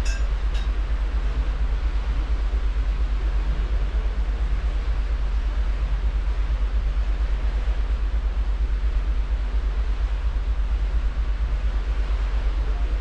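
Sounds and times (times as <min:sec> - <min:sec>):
hiss of ship wake and machinery: 0:00.0 - 0:13.0
wind rumble on microphone: 0:00.0 - 0:13.0.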